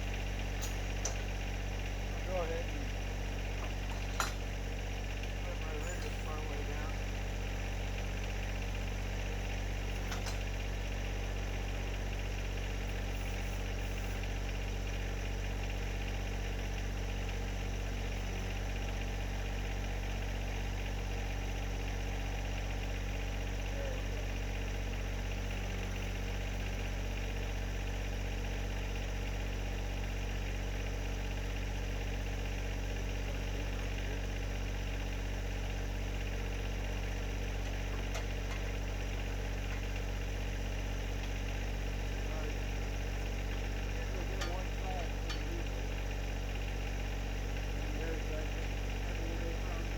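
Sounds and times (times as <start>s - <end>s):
tractor diesel engine idling: 0.0s - 49.9s.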